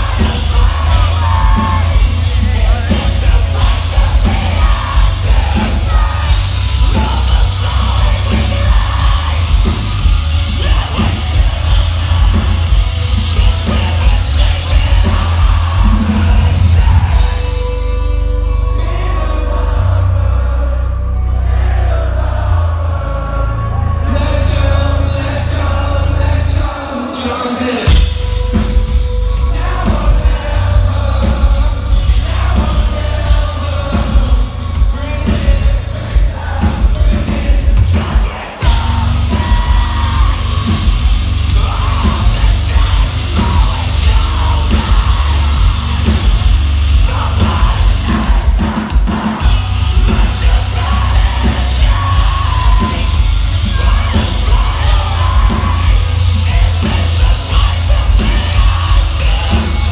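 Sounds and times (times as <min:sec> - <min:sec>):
metal band playing live: 0:00.0 - 0:59.9.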